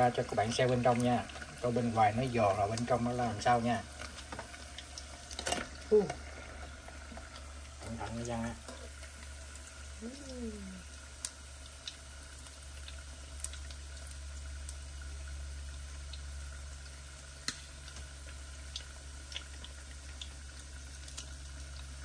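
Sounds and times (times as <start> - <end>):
oil sizzling with pops: 0.0 - 22.0.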